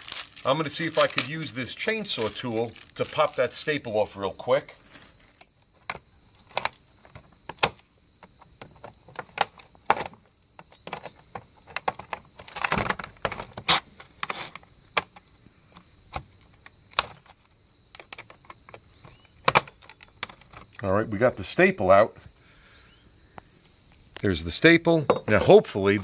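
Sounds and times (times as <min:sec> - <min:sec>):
high insect chirring: 0:00.0 - 0:26.0.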